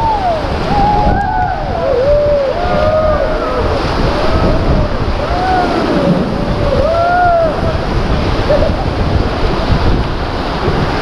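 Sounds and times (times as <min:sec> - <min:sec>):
whitewater rapids rushing: 0:00.0 - 0:11.0
wind buffeting microphone: 0:00.0 - 0:11.0.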